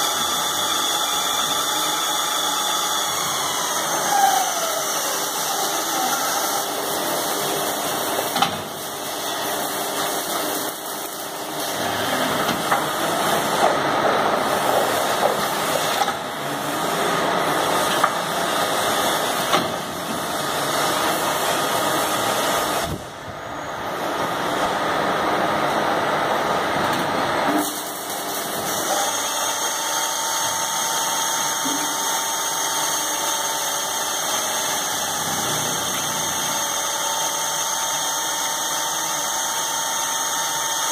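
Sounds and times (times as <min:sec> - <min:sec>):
drilling machine running: 0:00.0 - 0:40.9.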